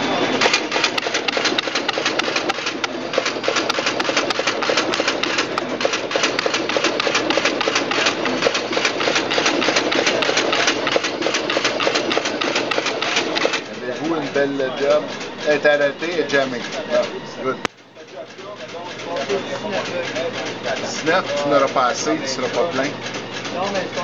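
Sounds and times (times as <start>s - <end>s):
card cutting machine clattering: 0.0s - 24.0s.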